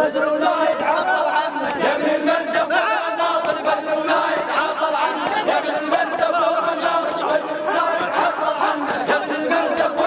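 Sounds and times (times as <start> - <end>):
crowd chanting and shouting: 0.0 - 10.0.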